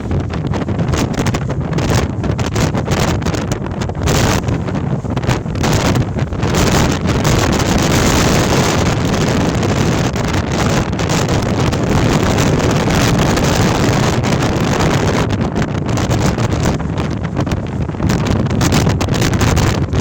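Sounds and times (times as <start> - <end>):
gale wind on microphone: 0.0 - 20.0.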